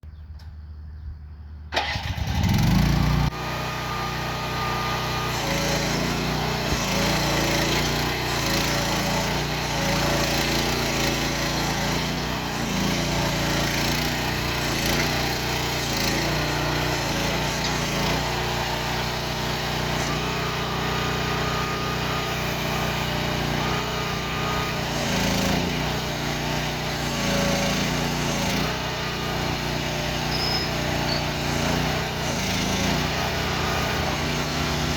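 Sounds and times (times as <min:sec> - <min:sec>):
small gasoline engine starting and running: 0:01.7 - 0:34.9.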